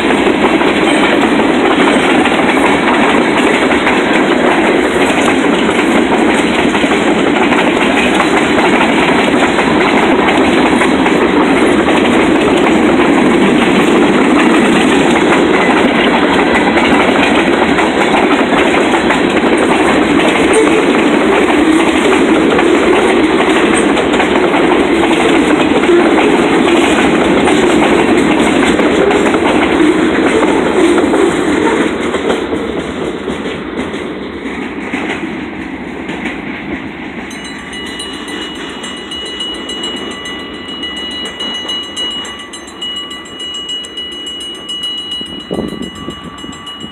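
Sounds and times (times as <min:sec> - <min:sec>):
crossing warning bell: 0:00.0 - 0:31.8, 0:37.2 - 0:46.9
train wheels on rails: 0:00.0 - 0:46.9.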